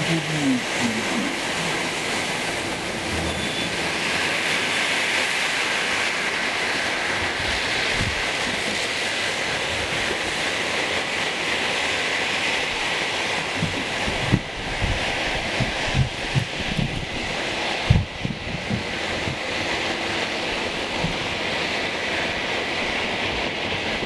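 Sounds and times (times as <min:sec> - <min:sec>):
tyres hissing on wet road: 0:00.0 - 0:24.0.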